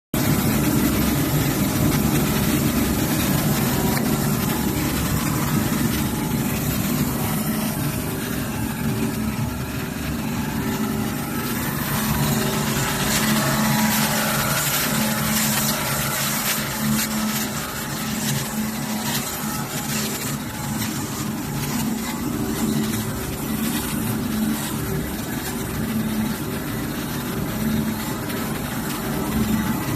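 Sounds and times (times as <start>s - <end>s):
belt sanding machine humming: 0.2s - 29.9s.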